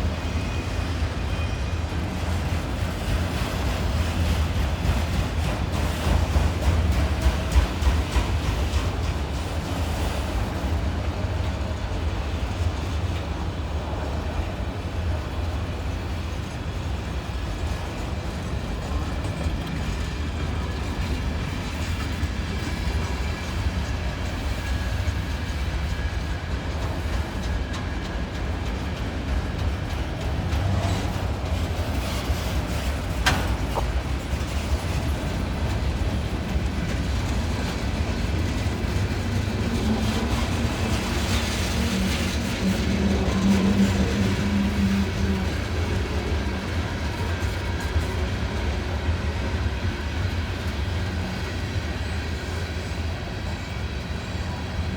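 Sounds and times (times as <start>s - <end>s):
freight train rumbling on rails: 0.0s - 54.9s.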